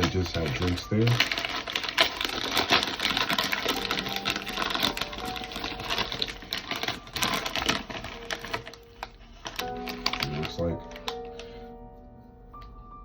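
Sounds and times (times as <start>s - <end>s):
plastic snack bag crinkling: 0.0s - 11.7s.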